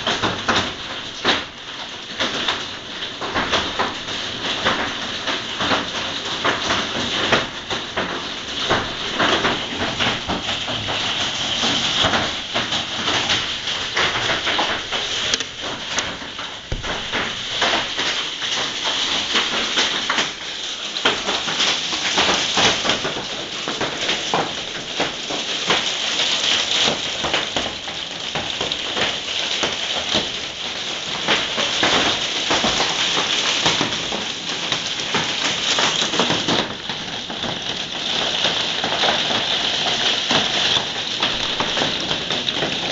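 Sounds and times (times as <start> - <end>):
hail and heavy rain pelting: 0.0 - 42.9.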